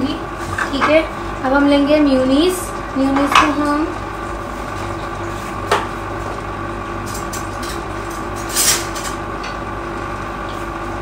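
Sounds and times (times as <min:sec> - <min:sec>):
appliance motor hum: 0:00.0 - 0:11.0.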